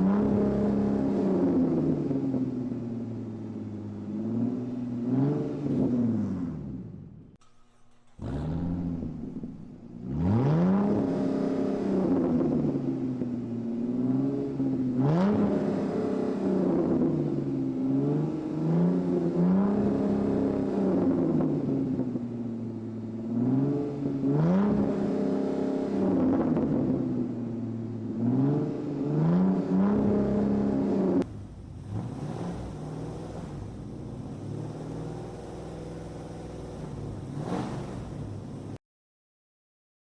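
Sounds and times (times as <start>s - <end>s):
engine revving: 0.0s - 3.0s, 3.6s - 38.8s.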